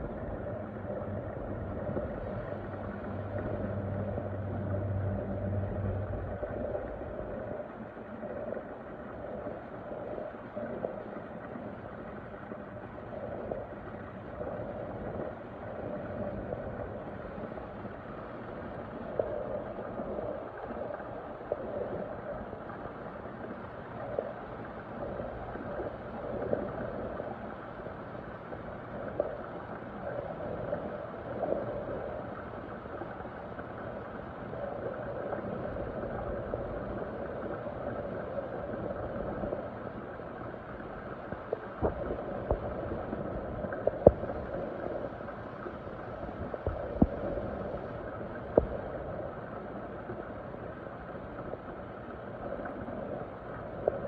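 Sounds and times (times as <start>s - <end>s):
water gurgling and bubbling: 0.0s - 54.0s.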